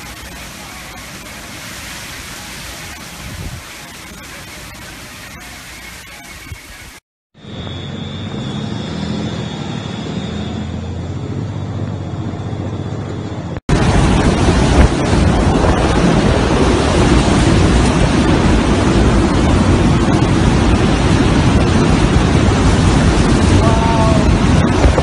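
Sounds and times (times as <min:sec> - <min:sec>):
hurricane wind on microphone: 0:00.0 - 0:25.0.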